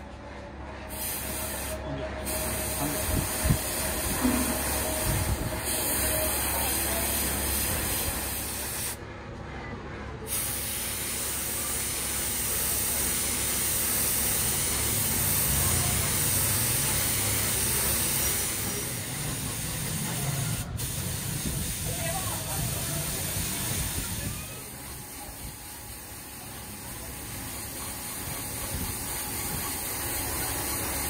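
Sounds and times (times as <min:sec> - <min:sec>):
paint spray gun hissing: 0:00.9 - 0:09.0, 0:10.3 - 0:31.0.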